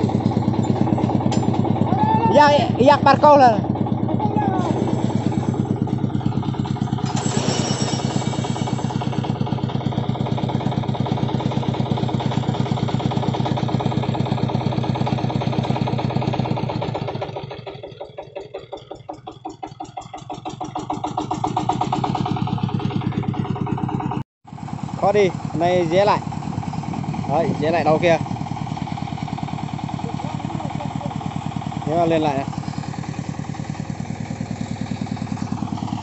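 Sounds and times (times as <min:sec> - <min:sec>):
diesel engine chugging: 0:00.0 - 0:36.0.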